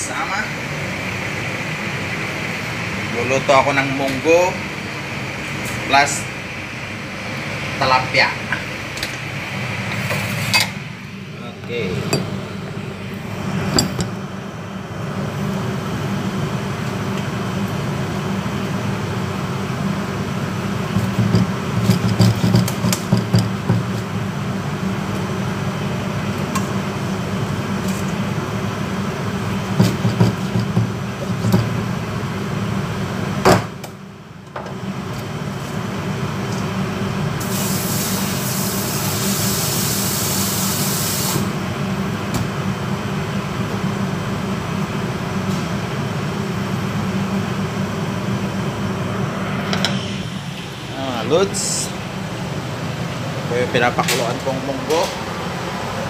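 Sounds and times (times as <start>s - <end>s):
ventilation hum: 0.0s - 56.0s.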